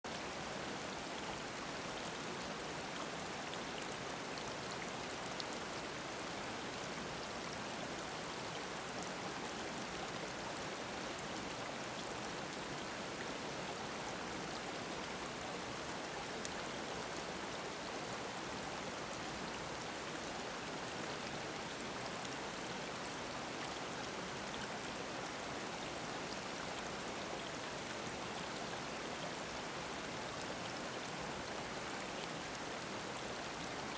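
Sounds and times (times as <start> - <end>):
stream babbling over rocks: 0.1 - 33.9.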